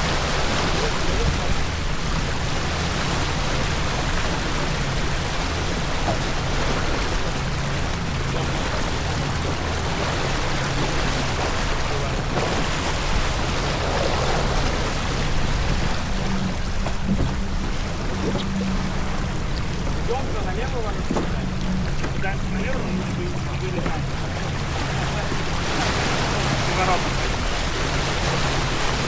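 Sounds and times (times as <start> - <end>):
water rushing along hull: 0.0 - 29.0.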